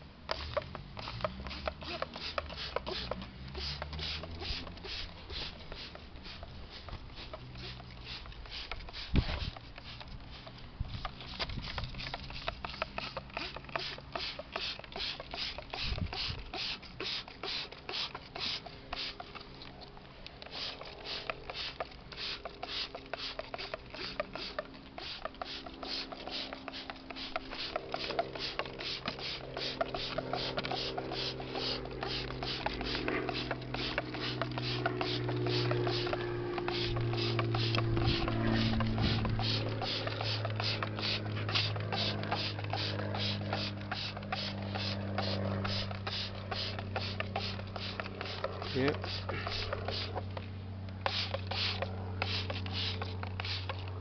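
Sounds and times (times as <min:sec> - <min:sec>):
low hum: 0:00.0 - 0:54.0
rapid mechanical clicking: 0:00.2 - 0:54.0.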